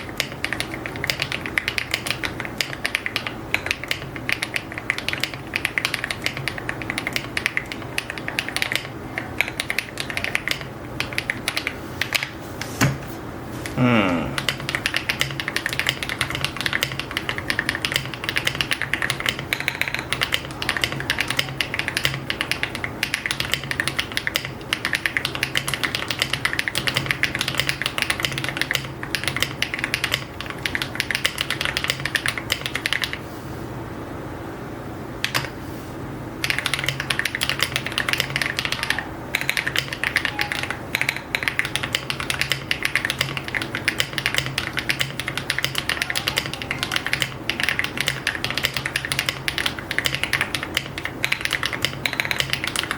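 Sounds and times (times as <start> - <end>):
fast mechanical keyboard typing: 0.0 - 12.4, 14.4 - 33.2, 35.2 - 35.5, 36.4 - 52.9.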